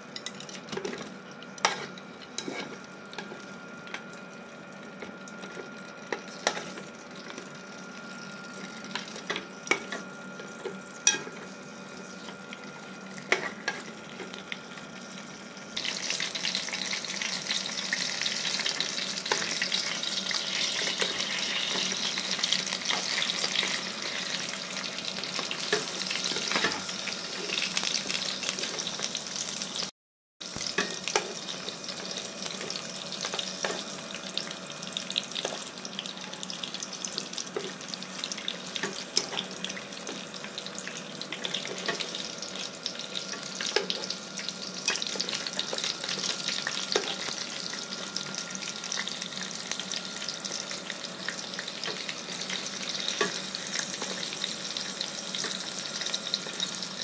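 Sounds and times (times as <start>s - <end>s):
meat sizzling in a pan: 1.6s - 57.0s.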